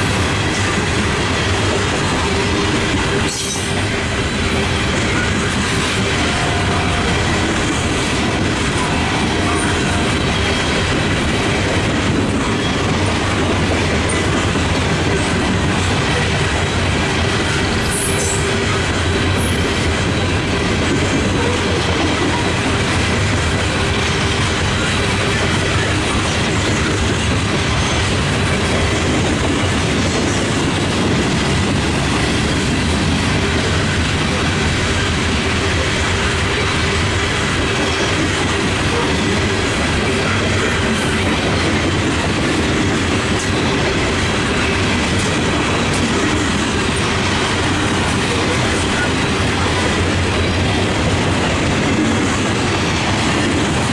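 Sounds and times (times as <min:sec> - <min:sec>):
freight train wheels rumbling on rails: 0:00.0 - 0:53.9.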